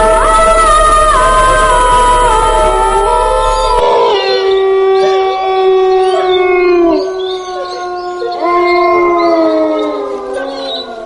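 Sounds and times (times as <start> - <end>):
canines howling: 0.0 - 11.0.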